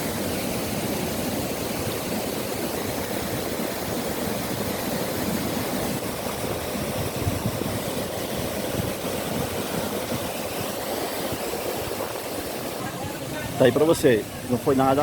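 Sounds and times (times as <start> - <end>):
river and waterfall rushing: 0.0 - 15.0.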